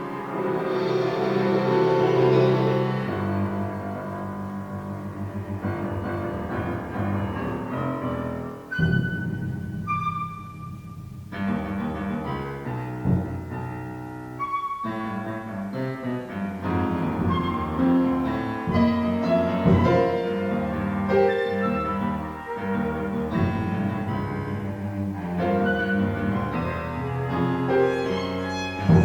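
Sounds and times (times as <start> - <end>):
bowed strings: 0.0 - 14.5, 16.5 - 29.0
piano: 0.0 - 29.0.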